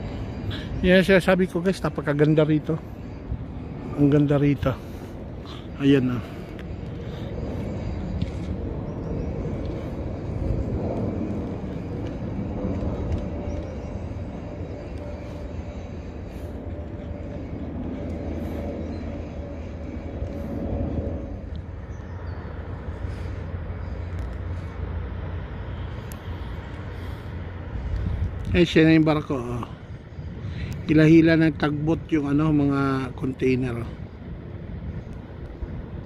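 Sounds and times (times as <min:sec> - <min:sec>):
faint steady hum: 0:00.0 - 0:36.0
low city rumble: 0:00.0 - 0:36.0.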